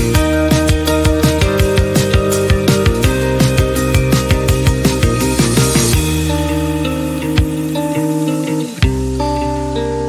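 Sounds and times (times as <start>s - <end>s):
electronic music with fast beat: 0.0s - 9.9s.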